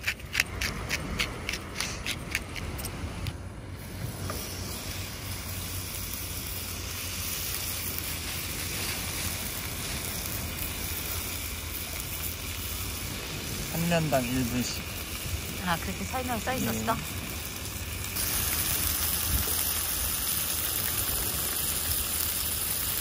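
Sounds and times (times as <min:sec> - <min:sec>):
steak sizzling in pan: 0:03.8 - 0:23.0.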